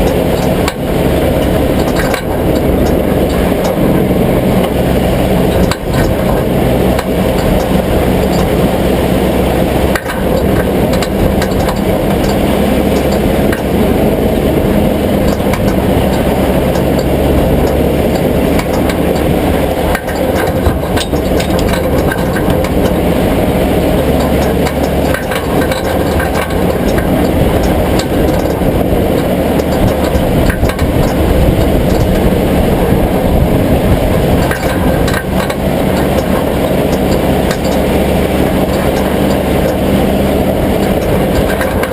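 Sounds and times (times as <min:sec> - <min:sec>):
sharp clicks or knocks: 0:00.0 - 0:04.0, 0:05.5 - 0:08.7, 0:09.9 - 0:13.9, 0:15.1 - 0:23.1, 0:24.0 - 0:32.3, 0:33.8 - 0:41.9
vehicle engine rumbling: 0:00.0 - 0:41.9.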